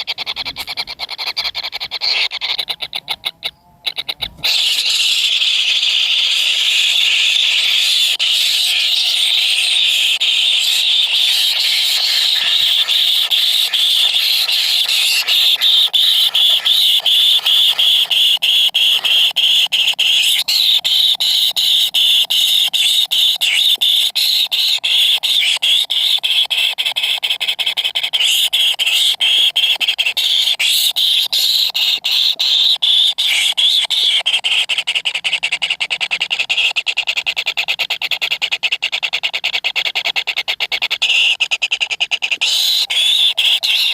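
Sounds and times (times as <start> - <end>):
nestlings begging squeal: 0.0 - 35.8, 41.0 - 43.9.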